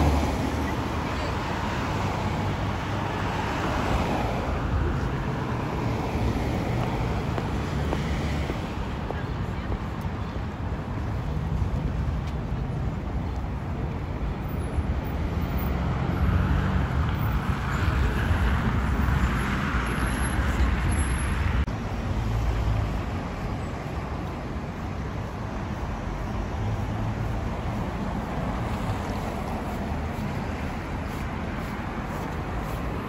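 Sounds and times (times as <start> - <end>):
cars driving past: 0.0 - 33.0.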